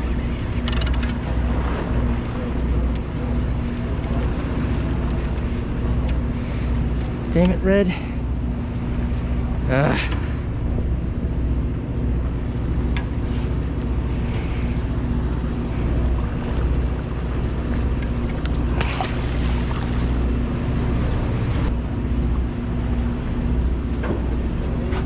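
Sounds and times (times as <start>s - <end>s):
sea noise: 0.0s - 24.0s
boat engine hum: 0.0s - 25.0s
wind: 0.0s - 25.0s.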